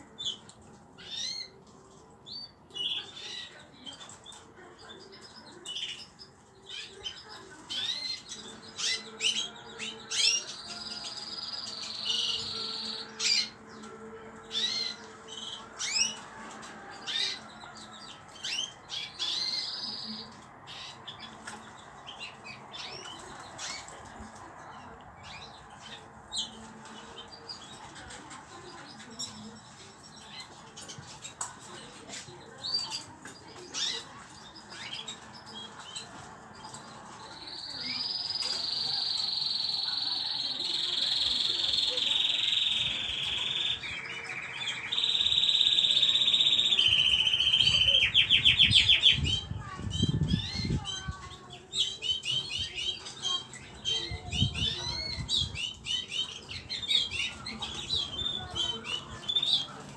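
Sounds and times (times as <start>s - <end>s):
cage birds chirping: 0.0s - 59.9s.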